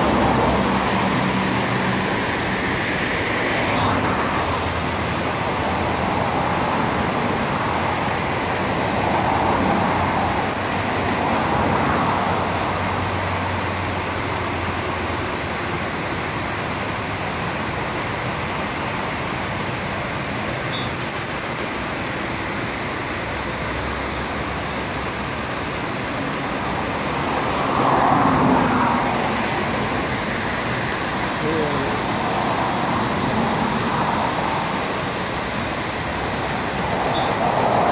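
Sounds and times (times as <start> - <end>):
road traffic passing: 0.0 - 37.9.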